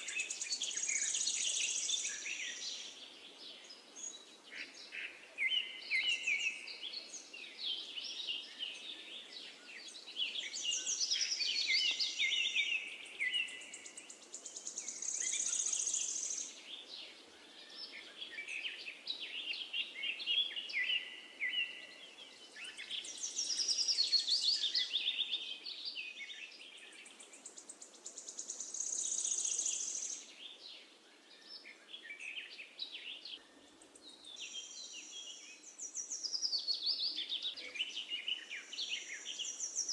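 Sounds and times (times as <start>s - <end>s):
faint steady hiss: 0.0s - 39.9s
songbirds chirping and trilling: 0.0s - 39.9s.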